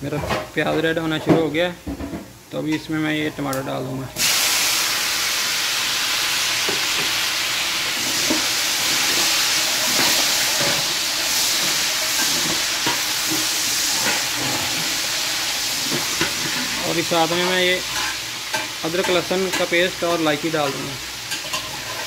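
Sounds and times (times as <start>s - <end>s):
onions and tomatoes sizzling in oil: 4.2s - 22.0s.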